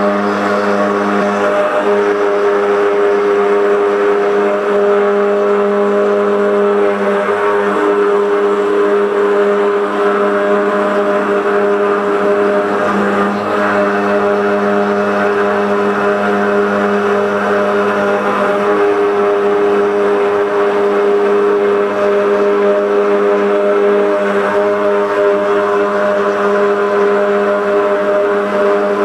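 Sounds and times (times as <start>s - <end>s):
router spindle motor whine: 0.0s - 29.0s.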